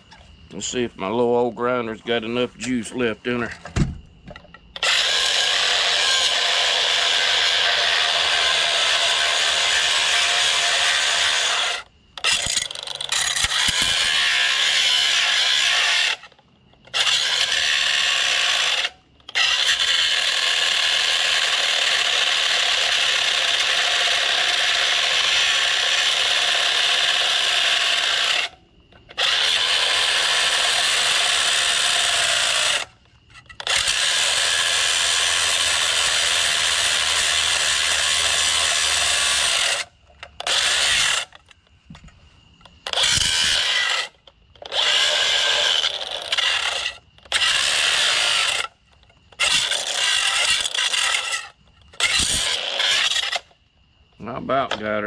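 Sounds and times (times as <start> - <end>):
grinder cutting scrap: 4.3 - 41.6, 42.8 - 53.6.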